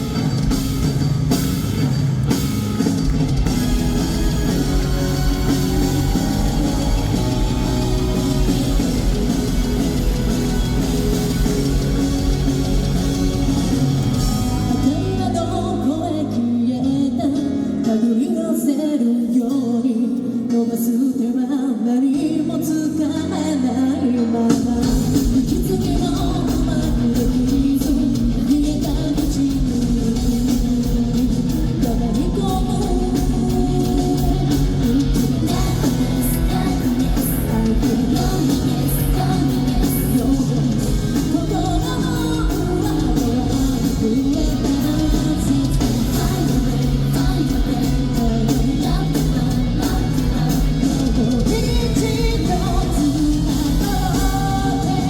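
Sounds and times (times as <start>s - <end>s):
bass and drums: 0.0s - 17.2s, 24.4s - 55.0s
distorted electric guitars: 0.0s - 18.1s, 22.5s - 55.0s
keyboards: 0.0s - 55.0s
woman singing: 3.5s - 55.0s.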